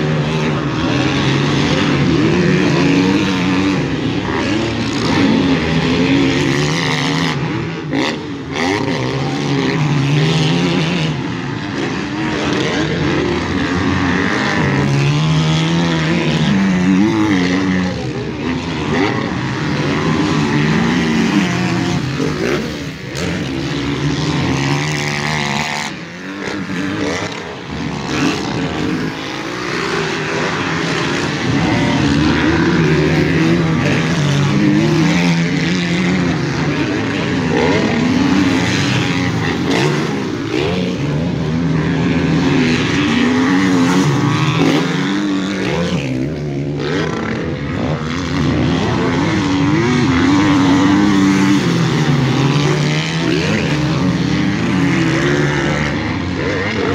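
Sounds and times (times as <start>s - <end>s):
motocross engines revving: 0.0s - 56.9s
rush of engine and wind: 0.0s - 56.9s.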